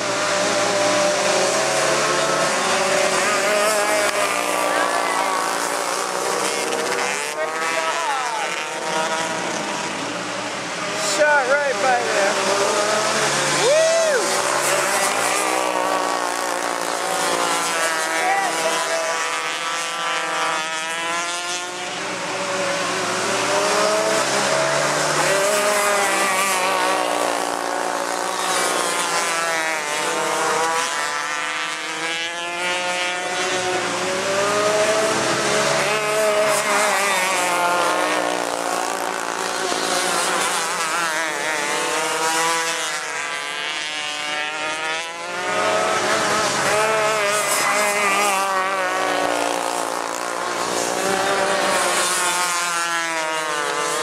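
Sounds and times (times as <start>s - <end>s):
kart engines racing: 0.0s - 54.0s.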